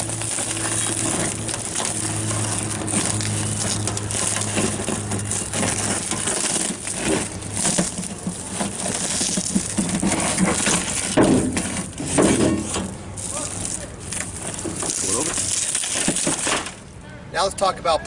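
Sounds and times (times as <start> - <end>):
windshield glass crunching: 0.0 - 16.9.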